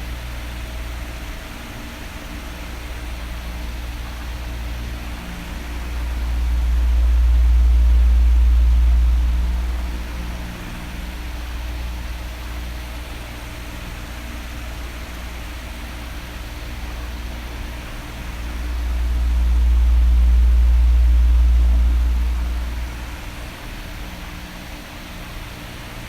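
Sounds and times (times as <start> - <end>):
oscillating fan running: 0.0 - 26.0.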